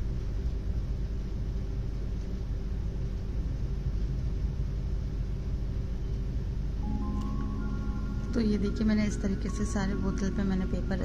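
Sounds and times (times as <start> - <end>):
faint hum: 0.0 - 11.0
low background rumble: 0.0 - 11.0.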